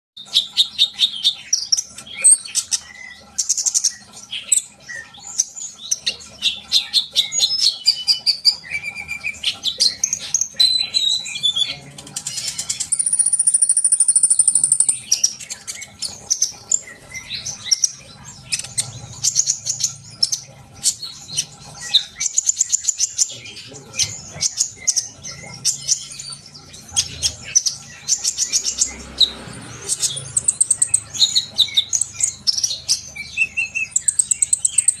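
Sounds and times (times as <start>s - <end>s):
bird chirping and twittering: 0.2s - 35.0s
buzzy high bird trill: 0.2s - 35.0s.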